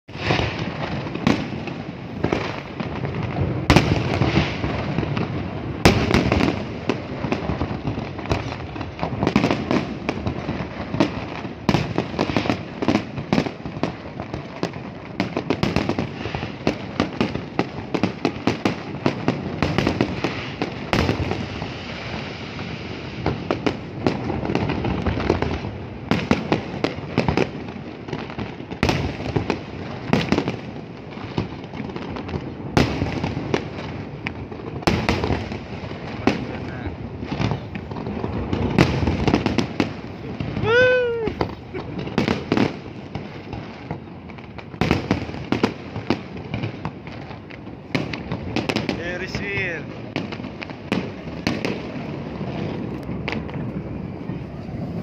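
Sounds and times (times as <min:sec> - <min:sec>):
fireworks bangs and crackling: 0:00.0 - 0:55.0
loud single firework bangs: 0:00.1 - 0:53.8.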